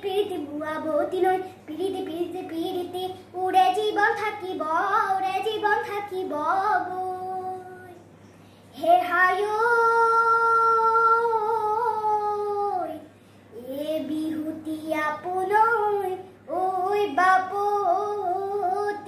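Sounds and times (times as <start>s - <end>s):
young child singing: 0.0s - 8.0s, 8.8s - 19.0s.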